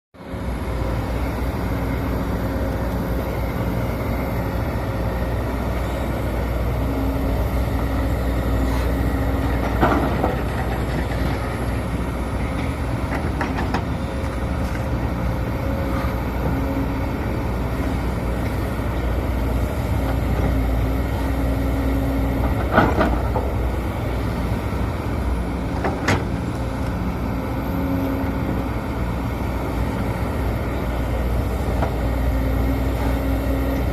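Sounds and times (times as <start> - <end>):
excavator diesel engine running: 0.2 - 33.9.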